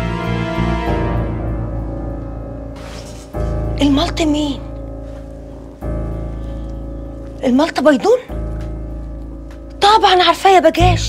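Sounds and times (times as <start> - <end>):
dramatic music with held chords: 0.0 - 11.0.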